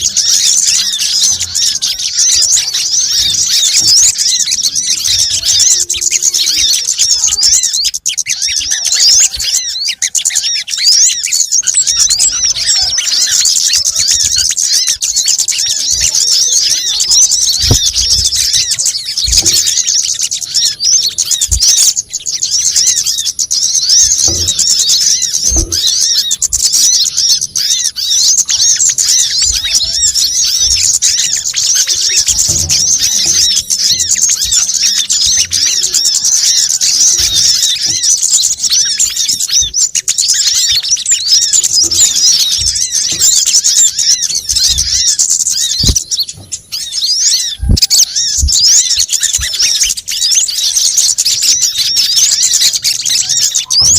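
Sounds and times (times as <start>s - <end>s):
small songbirds chirping: 0.0s - 53.9s.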